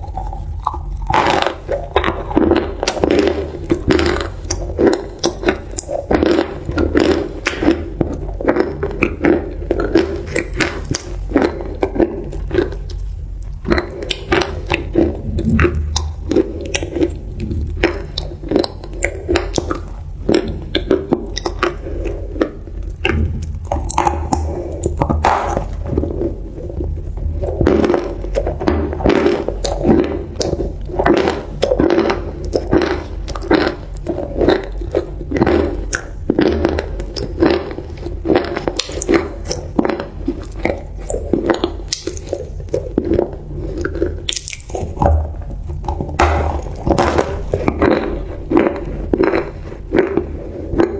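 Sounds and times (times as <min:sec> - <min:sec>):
chewing crunchy food: 0:00.0 - 0:50.9.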